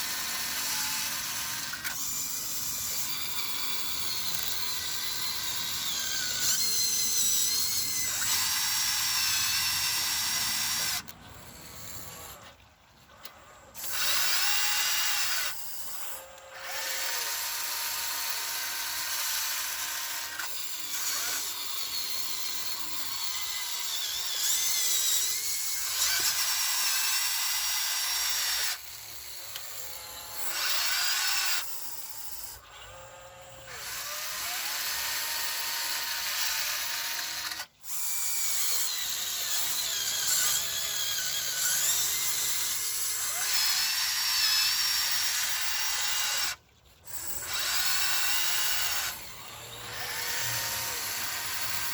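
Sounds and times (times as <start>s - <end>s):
electric motors whining through gears: 0.0s - 51.9s.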